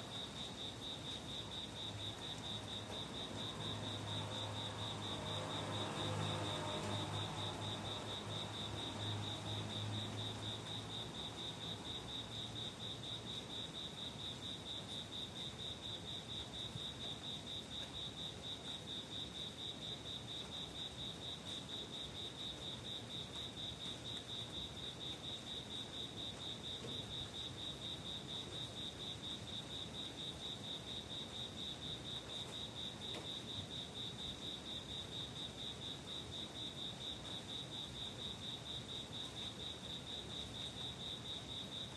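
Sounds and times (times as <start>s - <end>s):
cricket chirping: 0.0s - 41.9s.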